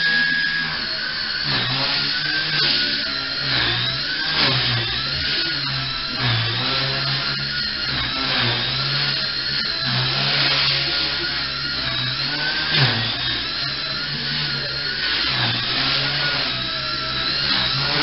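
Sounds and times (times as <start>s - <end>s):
rc helicopter rotor whine: 0.0s - 18.0s.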